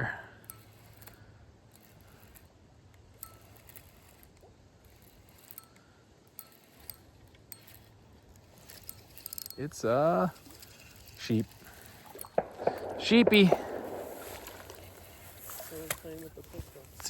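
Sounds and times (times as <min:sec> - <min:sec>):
faint clicks and clinks: 0:00.4 - 0:17.0.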